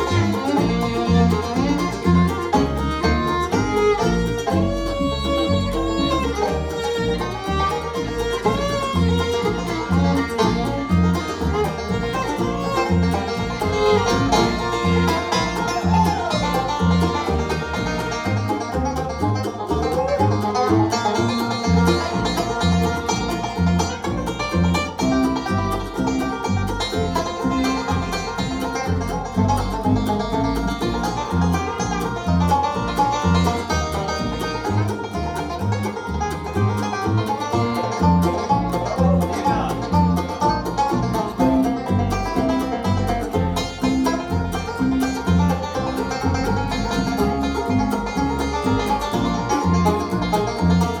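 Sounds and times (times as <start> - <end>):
band playing instrumental tune: 0.0 - 51.0
steady bass beat: 0.0 - 51.0.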